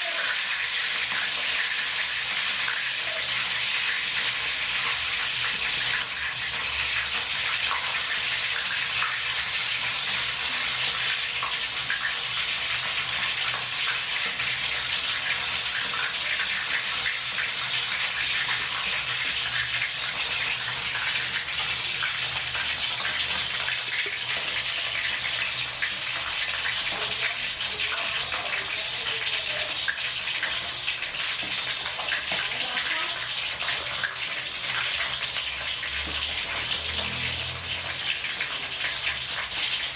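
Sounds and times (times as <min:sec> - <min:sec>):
crackles and pops of frying: 0:00.0 - 0:39.9
oil sizzling in a wok: 0:00.0 - 0:39.9.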